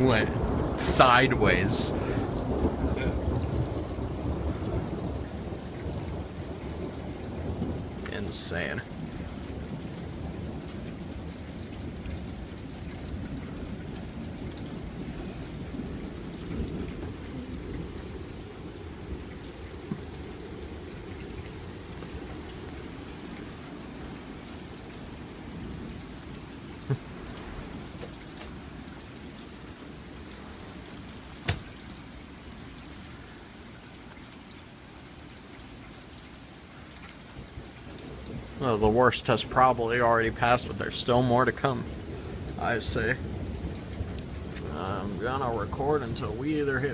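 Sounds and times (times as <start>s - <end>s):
thunder rumble: 0.0s - 31.9s, 37.4s - 46.9s
steady rain: 0.0s - 46.9s.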